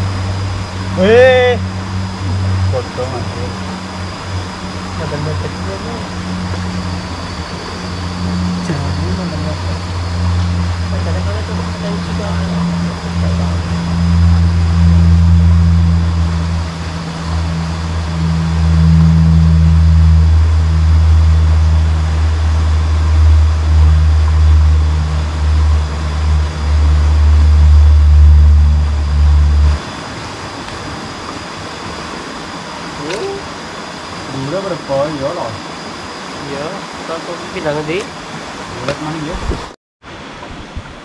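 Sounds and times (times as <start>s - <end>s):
faint hiss of stream: 0.0s - 41.0s.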